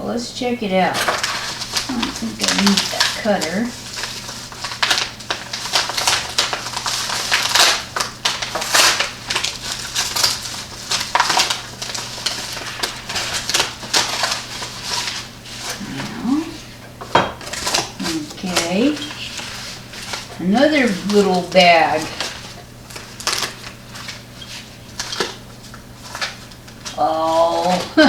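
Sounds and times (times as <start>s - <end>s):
packaging tearing and crinkling: 1.2s - 16.7s, 17.4s - 28.0s.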